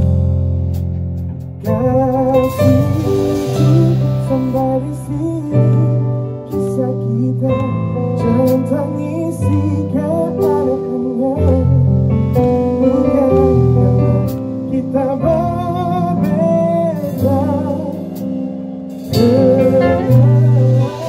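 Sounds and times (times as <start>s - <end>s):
electric guitar bending melody: 0.0s - 21.0s
sustained keyboard chords: 0.0s - 21.0s.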